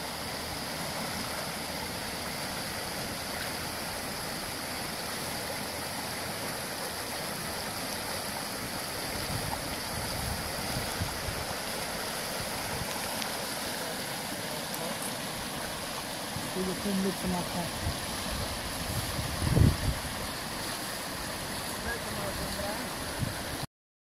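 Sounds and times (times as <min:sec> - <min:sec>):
river water rushing over stones: 0:00.0 - 0:23.7.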